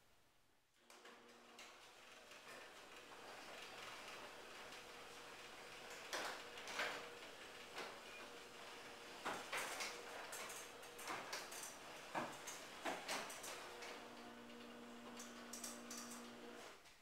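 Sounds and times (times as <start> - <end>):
garage door opener hum: 0.8 - 16.8.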